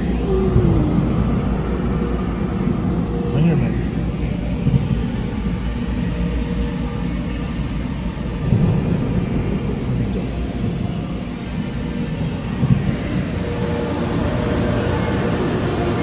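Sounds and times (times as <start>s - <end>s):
car rumble from inside cabin: 0.0s - 7.0s, 8.3s - 16.0s.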